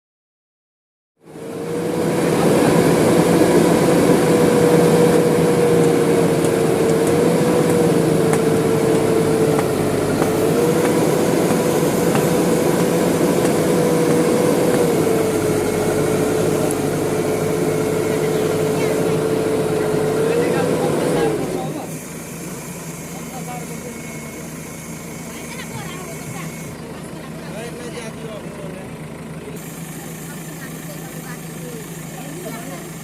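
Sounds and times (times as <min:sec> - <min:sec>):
diesel engine running: 0:01.2 - 0:33.0
engine whine: 0:01.2 - 0:33.0.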